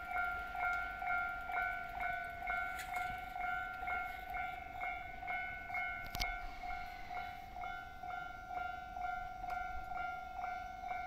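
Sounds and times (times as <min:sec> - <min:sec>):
level crossing alarm clanging: 0:00.0 - 0:11.0.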